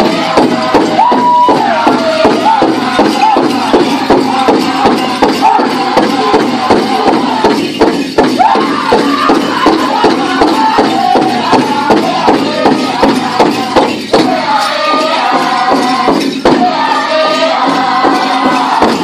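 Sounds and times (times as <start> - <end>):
fast steady drumbeat: 0.0 - 19.0
group singing in high voices: 0.0 - 19.0.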